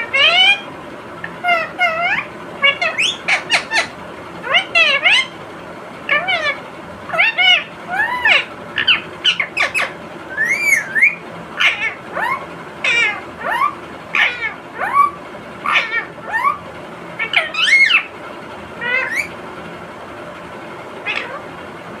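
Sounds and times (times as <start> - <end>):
parakeet calls: 0.0 - 5.4, 6.1 - 19.4, 21.0 - 21.6.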